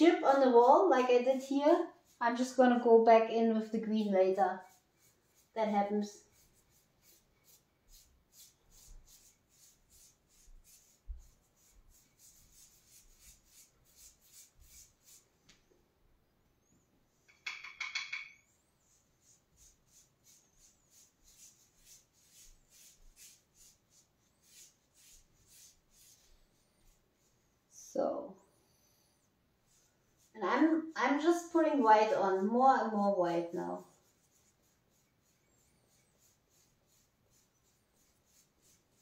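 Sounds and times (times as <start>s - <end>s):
paintbrush strokes on wall: 0.0s - 15.9s, 16.6s - 39.0s.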